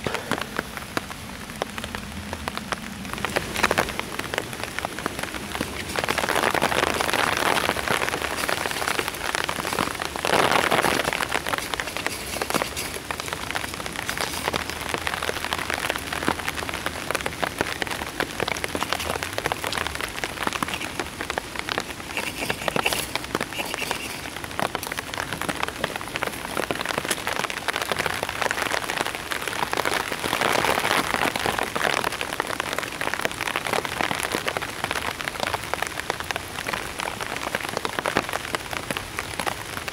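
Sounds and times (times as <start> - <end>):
rain pattering on shelter: 0.0 - 39.9.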